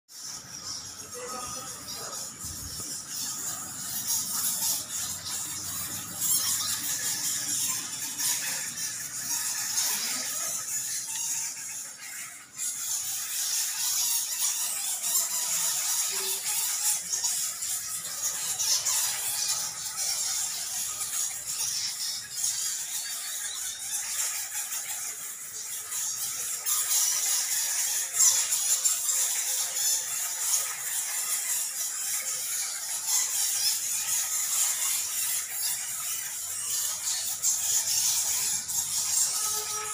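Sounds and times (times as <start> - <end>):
bats squeaking and chittering: 0.1 - 39.9.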